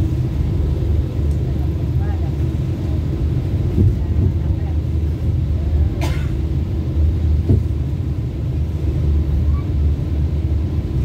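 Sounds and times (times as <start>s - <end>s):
train rumble inside coach: 0.0s - 11.0s.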